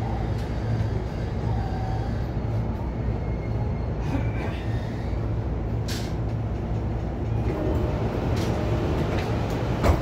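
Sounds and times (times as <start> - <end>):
electric train humming: 0.0 - 10.0.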